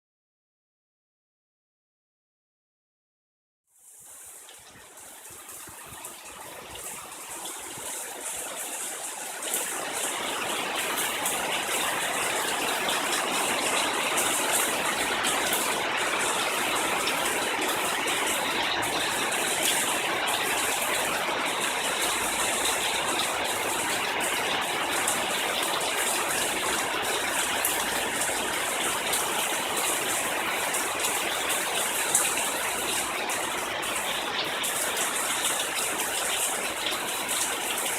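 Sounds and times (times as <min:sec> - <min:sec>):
heavy rain pouring: 0:03.7 - 0:37.9.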